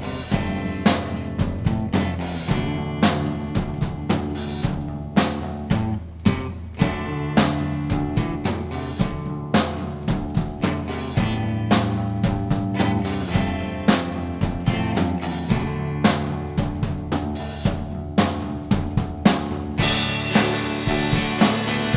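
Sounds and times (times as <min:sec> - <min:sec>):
drum kit beat: 0:00.0 - 0:21.9
held low bass notes: 0:00.0 - 0:21.9.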